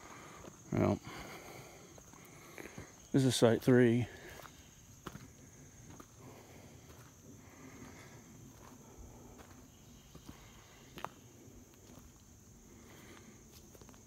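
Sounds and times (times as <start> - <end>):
footsteps on forest path: 0.0 - 14.0.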